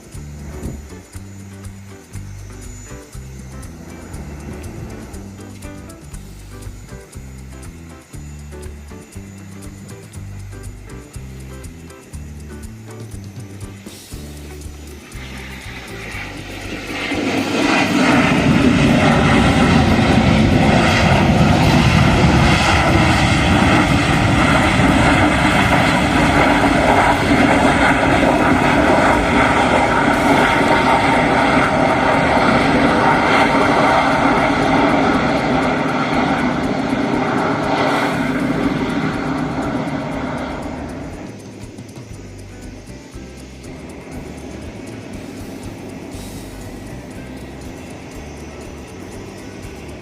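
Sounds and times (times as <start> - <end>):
jet engine roar and whine: 0.0 - 50.0.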